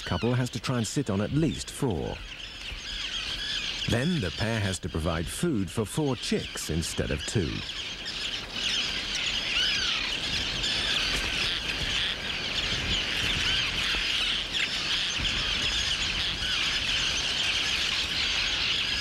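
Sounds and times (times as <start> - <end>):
tern colony calling: 0.0 - 19.0.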